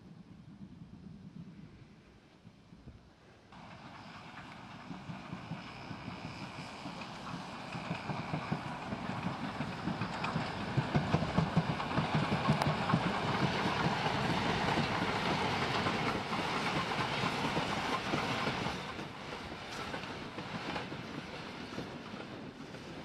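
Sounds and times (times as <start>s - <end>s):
steam locomotive rhythmic beats: 3.7s - 23.0s.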